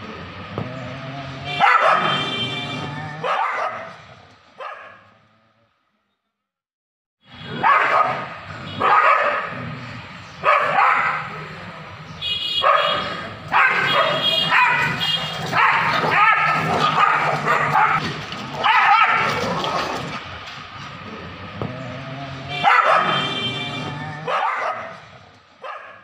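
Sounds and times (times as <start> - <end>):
dogs barking and yelping: 0.0 - 5.2, 7.5 - 11.7, 12.6 - 26.0.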